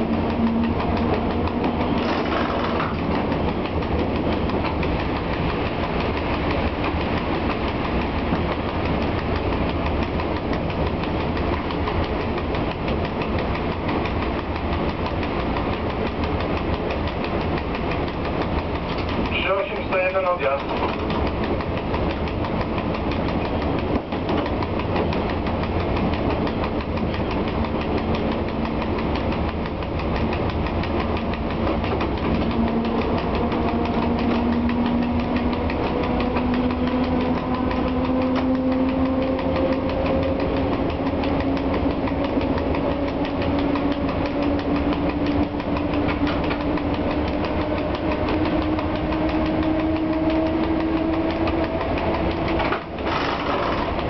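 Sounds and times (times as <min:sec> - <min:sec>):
electric locomotive motor whine: 0:00.0 - 0:54.0
wheels clattering on rails: 0:00.0 - 0:54.0.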